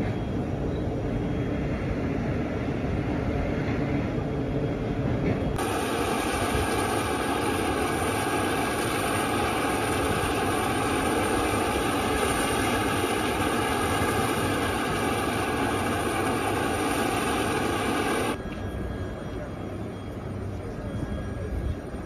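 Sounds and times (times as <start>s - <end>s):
aircraft turbines roaring: 0.0s - 22.0s.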